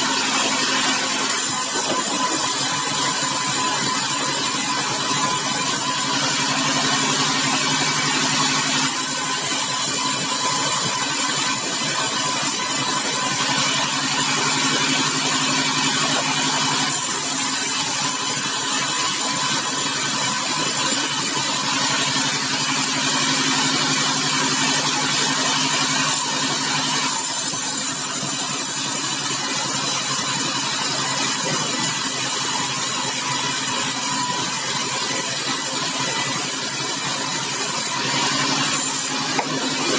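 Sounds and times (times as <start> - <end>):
saw running: 0.0 - 39.9.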